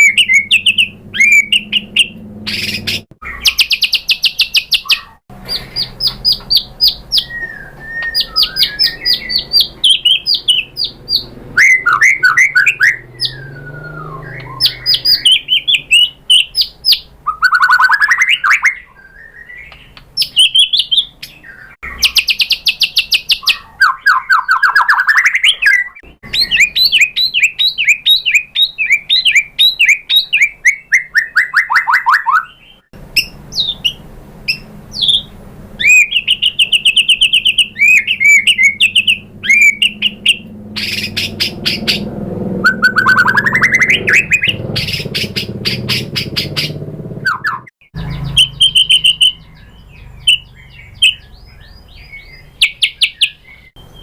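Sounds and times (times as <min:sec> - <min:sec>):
songbird singing sharp trills: 0:00.0 - 0:54.0.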